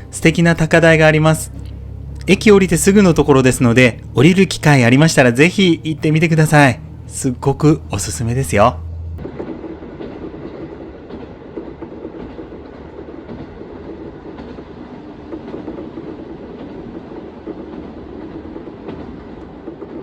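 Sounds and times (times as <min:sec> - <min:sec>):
diesel railcar rumbling on rails: 0:00.0 - 0:20.0.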